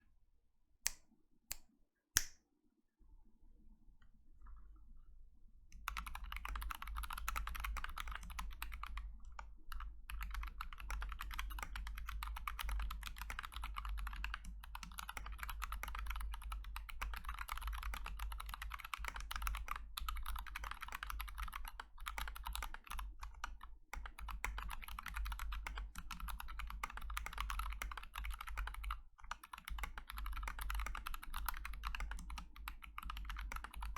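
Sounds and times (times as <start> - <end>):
typing on mechanical keyboard: 5.8 - 33.9.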